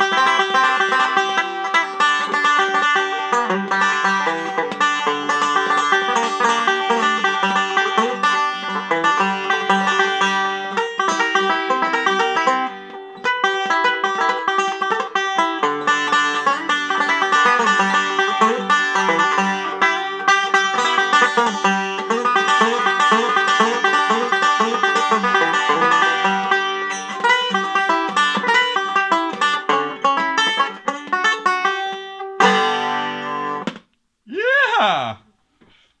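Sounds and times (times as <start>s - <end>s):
banjo fingerpicked: 0.0s - 33.8s.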